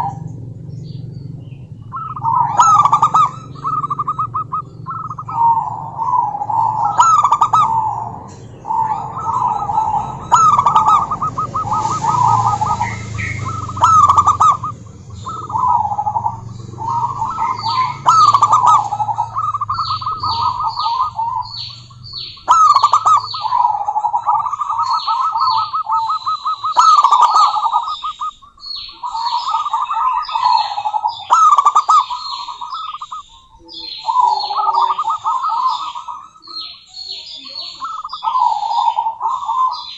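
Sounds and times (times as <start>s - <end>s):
dove cooing: 0.0s - 39.9s
high bird chirps: 0.0s - 39.9s.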